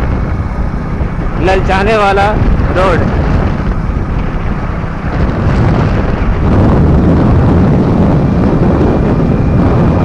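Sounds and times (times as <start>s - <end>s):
road noise: 0.0s - 10.0s
vehicle engine noise: 0.0s - 10.0s
wind buffeting microphone: 0.0s - 10.0s.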